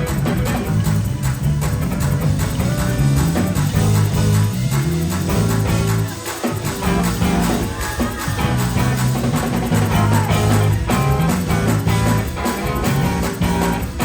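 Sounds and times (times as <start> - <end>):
bass and beat: 0.0 - 14.0
guitar: 0.0 - 14.0.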